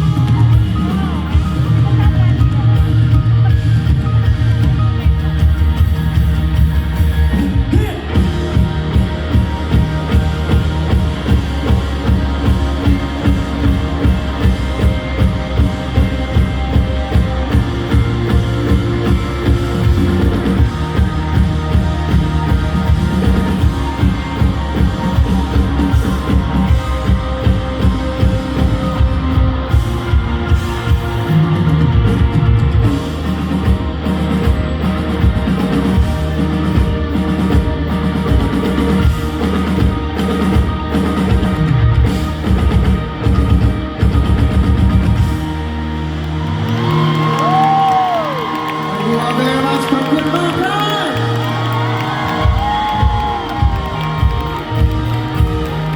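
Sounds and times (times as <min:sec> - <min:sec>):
drum kit beat: 0:00.0 - 0:55.9
electric guitars: 0:00.0 - 0:55.9.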